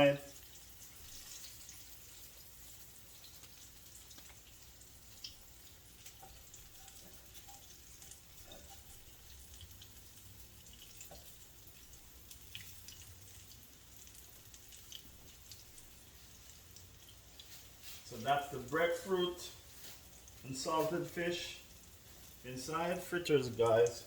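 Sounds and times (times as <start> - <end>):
fritters sizzling in a pot: 0.0 - 24.0.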